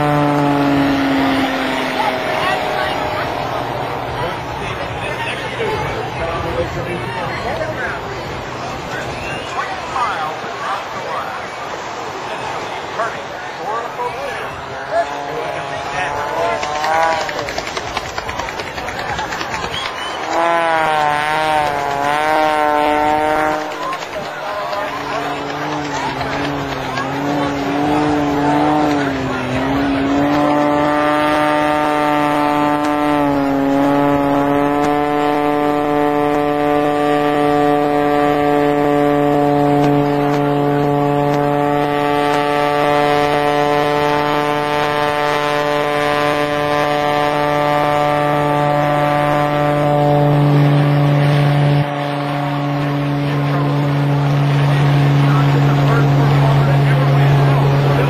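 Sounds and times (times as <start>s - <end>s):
propeller plane engine: 0.0s - 58.0s.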